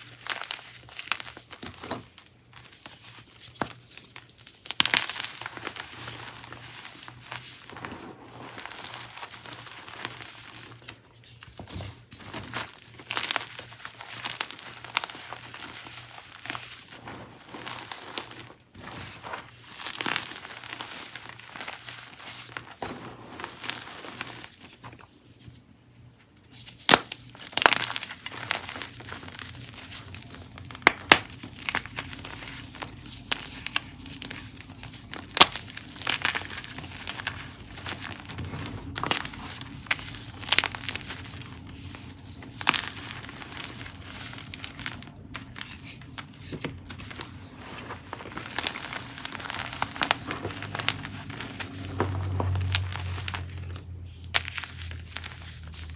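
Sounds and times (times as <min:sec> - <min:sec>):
chalk crushing and crunching: 0:00.0 - 0:25.6, 0:26.5 - 0:55.9.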